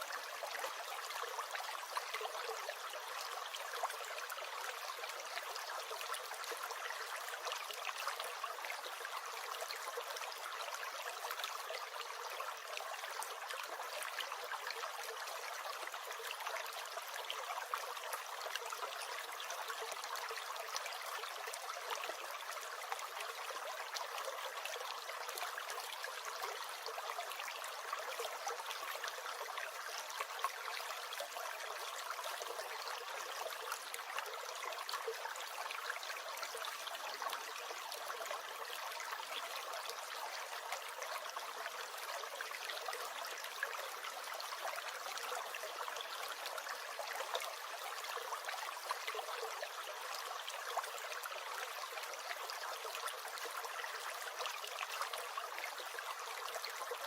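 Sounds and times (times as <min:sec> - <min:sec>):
stream gurgling: 0:00.0 - 0:57.0.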